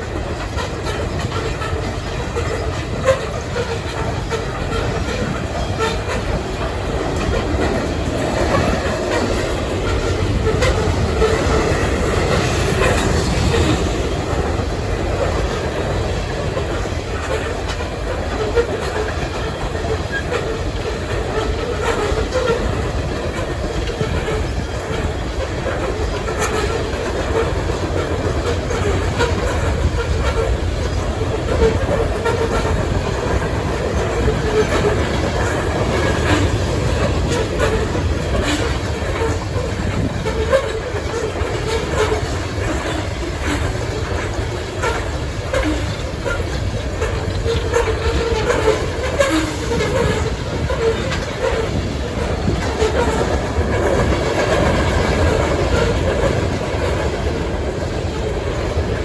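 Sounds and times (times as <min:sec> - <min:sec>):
freight train rumble: 0:00.0 - 0:59.0
wheels clicking over rail joints: 0:00.0 - 0:59.0.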